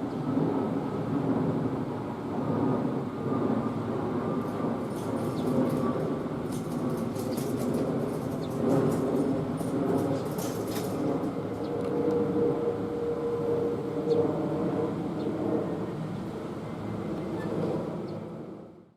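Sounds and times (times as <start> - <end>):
train wheels rumbling on rail: 0.1 - 17.8.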